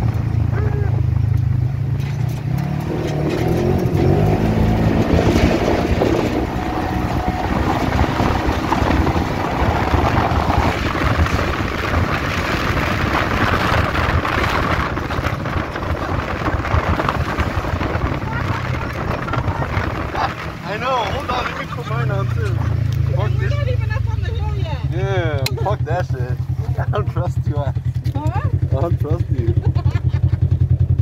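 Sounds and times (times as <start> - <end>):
engine accelerating: 0.0 - 31.0
wind buffeting microphone: 2.9 - 30.1.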